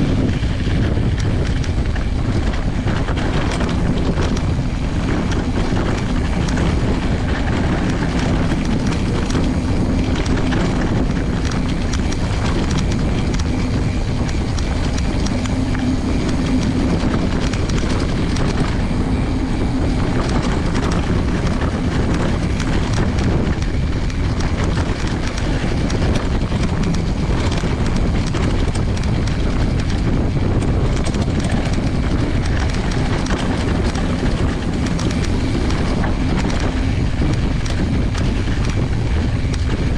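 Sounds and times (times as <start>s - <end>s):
bike rattling: 0.0s - 39.9s
bike tyre rumbling on dirt: 0.0s - 39.9s
wind on microphone: 0.0s - 39.9s.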